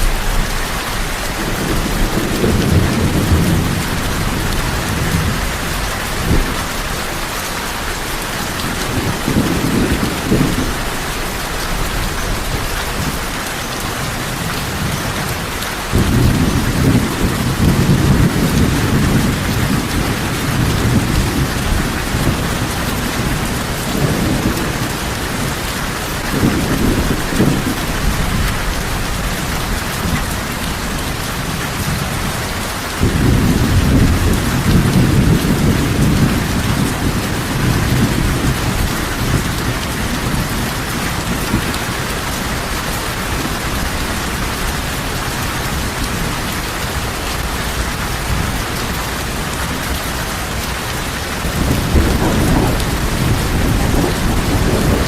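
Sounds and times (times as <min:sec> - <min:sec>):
heavy rain falling: 0:00.0 - 0:55.0
thunder rumbling: 0:00.0 - 0:55.0.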